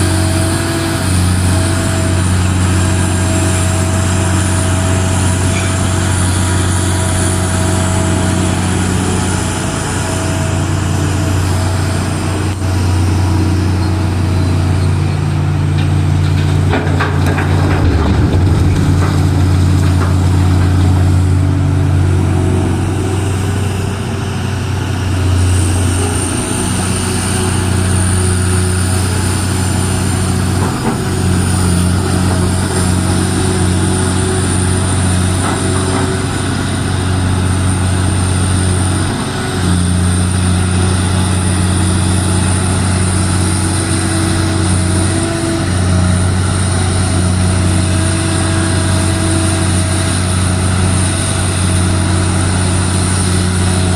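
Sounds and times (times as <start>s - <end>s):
heavy diesel engine under load: 0.0s - 53.9s.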